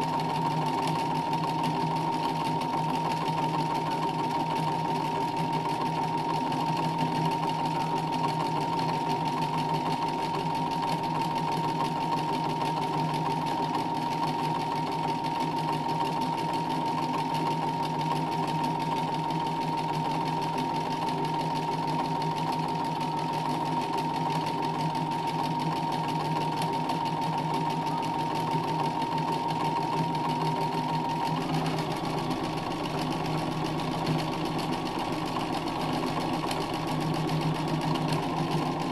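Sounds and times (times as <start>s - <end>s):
sewing machine stitching: 0.0s - 38.9s.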